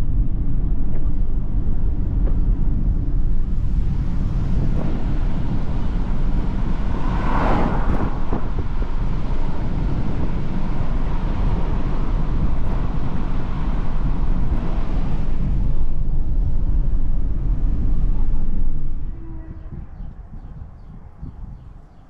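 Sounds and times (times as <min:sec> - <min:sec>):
car driving rumble: 0:00.0 - 0:21.9.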